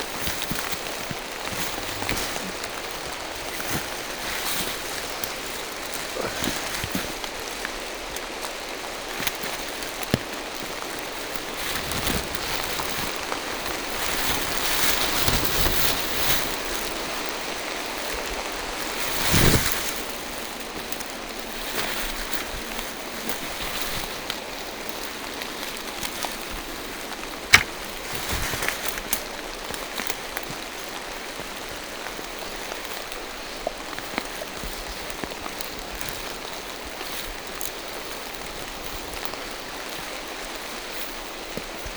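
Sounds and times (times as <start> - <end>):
rain on leaves: 0.0 - 41.9.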